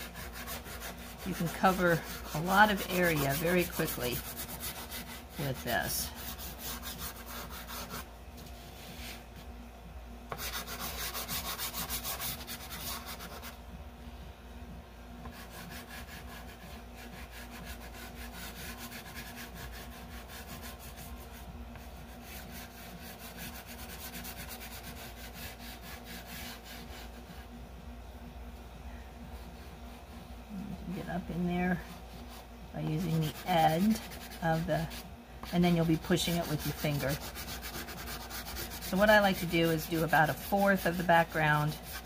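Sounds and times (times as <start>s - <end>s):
chalk pastel scratching on paper: 0.0s - 9.2s, 10.3s - 13.6s, 15.2s - 27.5s, 31.0s - 42.0s.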